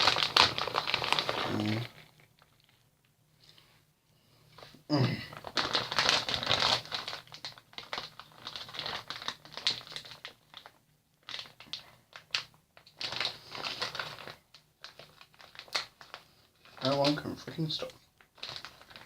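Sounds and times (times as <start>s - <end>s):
plastic packaging crinkling: 0.0s - 2.9s, 4.6s - 19.0s.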